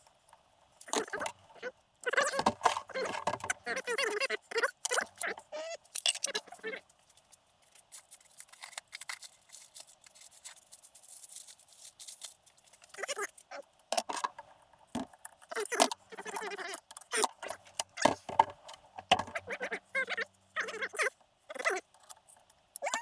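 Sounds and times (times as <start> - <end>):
metal parts and tools clinking: 0.2 - 19.5.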